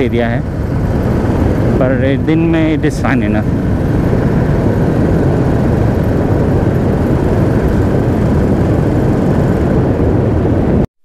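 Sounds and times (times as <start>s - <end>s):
motorcycle engine running: 0.0s - 10.9s
wind rush over microphone: 0.0s - 10.9s.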